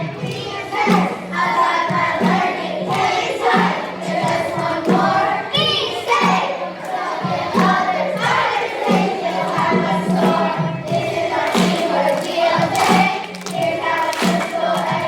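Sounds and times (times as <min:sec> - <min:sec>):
children's chorus singing: 0:00.0 - 0:15.0
instrumental accompaniment with bass line: 0:00.0 - 0:15.0.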